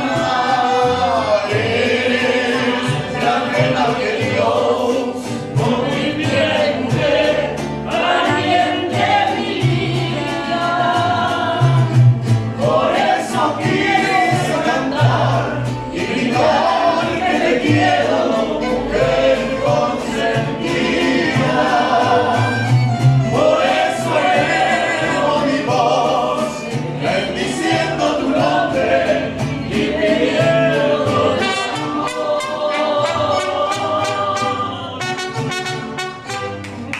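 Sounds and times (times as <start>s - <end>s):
deep bass notes: 0.0s - 35.0s
voices singing together: 0.0s - 36.4s
mariachi band playing: 0.0s - 36.9s.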